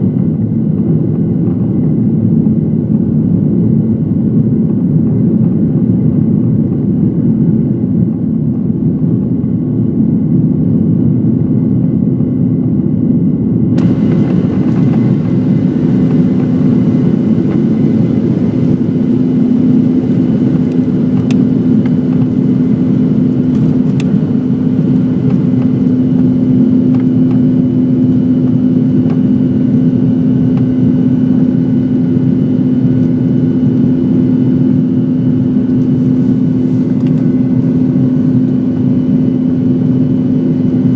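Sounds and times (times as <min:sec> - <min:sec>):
jet engines roaring in cabin: 0:00.0 - 0:40.9
steady hum: 0:00.0 - 0:40.9.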